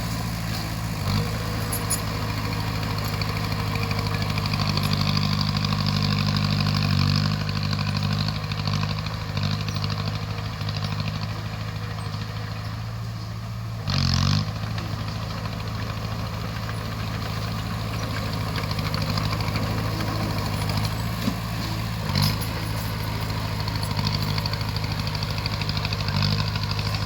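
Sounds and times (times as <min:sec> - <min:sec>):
bulldozer diesel engine working: 0:00.0 - 0:27.0.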